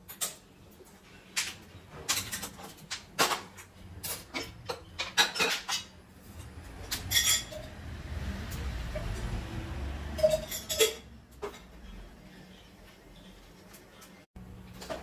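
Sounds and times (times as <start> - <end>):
metal pots clanking and scraping: 0.0 - 15.0.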